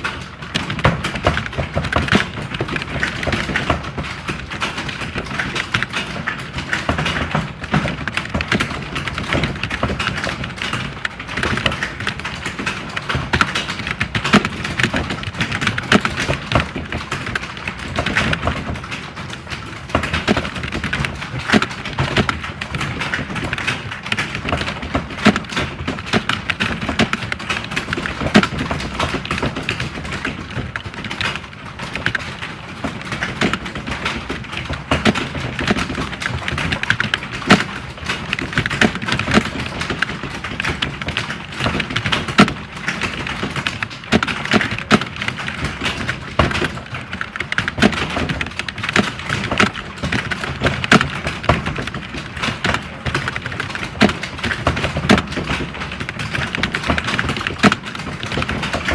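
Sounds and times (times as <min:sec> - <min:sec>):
keyboards clattering: 0:00.0 - 0:58.9.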